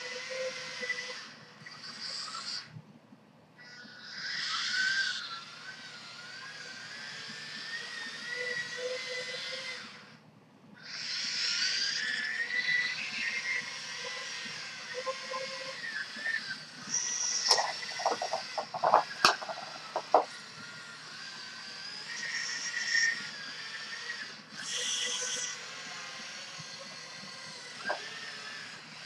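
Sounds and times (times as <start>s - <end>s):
electric gear motors whining: 0.0s - 2.7s, 3.6s - 10.2s, 10.8s - 29.0s.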